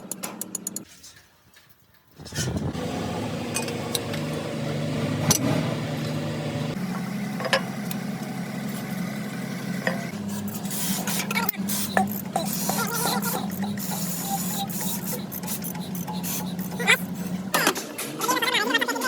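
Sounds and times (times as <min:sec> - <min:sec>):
motor running: 0:02.7 - 0:18.8.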